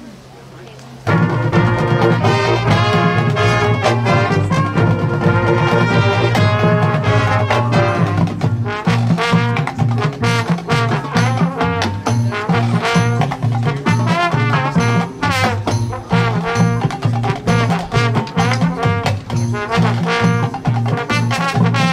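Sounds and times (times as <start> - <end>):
drums: 0.0 - 21.9
brass: 1.0 - 21.9
marching band playing: 1.0 - 21.9.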